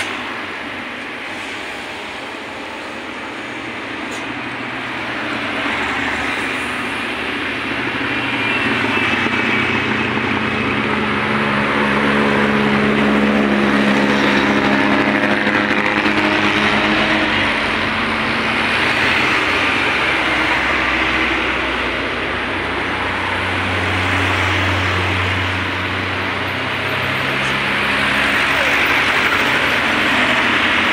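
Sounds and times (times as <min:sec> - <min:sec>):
vehicle engines passing: 0:00.0 - 0:30.9.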